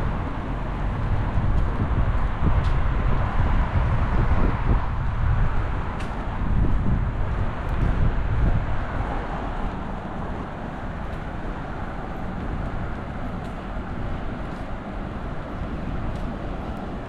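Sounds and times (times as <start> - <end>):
distant road traffic: 0.0 - 17.0
wind rumble on microphone: 0.0 - 17.0.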